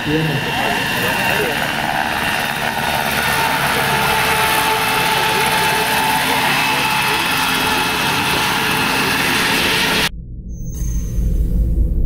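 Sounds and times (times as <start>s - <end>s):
model helicopter rotors whining: 0.0s - 10.1s.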